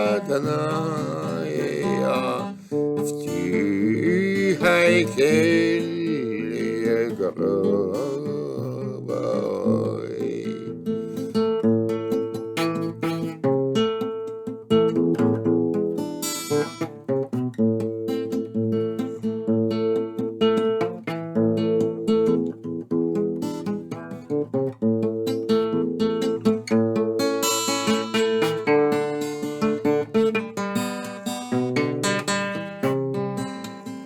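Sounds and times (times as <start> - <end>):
acoustic guitar playing: 0.0 - 34.0.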